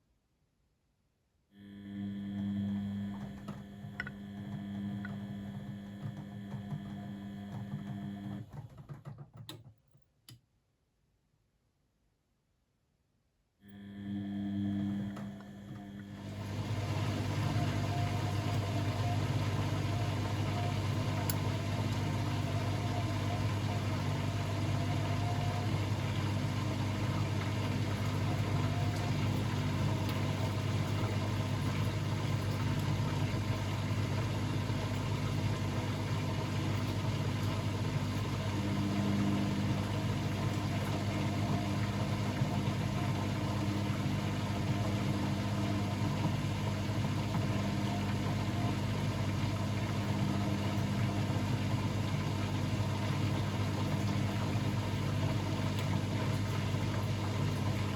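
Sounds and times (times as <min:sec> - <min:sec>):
washing machine hum: 0:01.6 - 0:09.9, 0:13.7 - 0:57.9.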